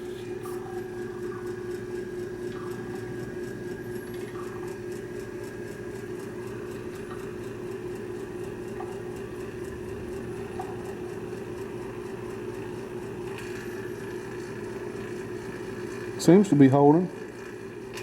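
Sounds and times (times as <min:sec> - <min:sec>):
vacuum pump humming: 0:00.0 - 0:18.0.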